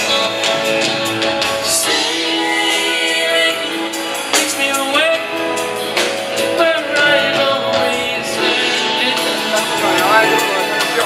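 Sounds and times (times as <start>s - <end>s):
live soft-rock band: 0.0s - 11.0s
man singing: 0.0s - 11.0s.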